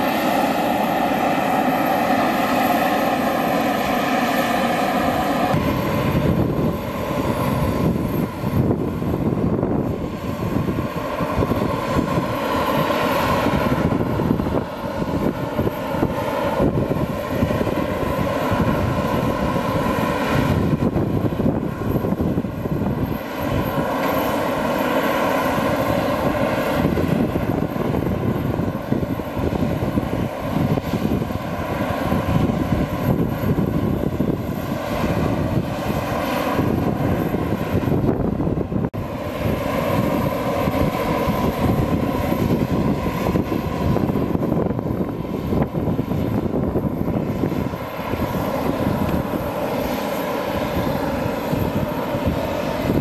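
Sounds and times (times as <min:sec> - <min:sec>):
aircraft engine rumble and whine: 0:00.0 - 0:53.0.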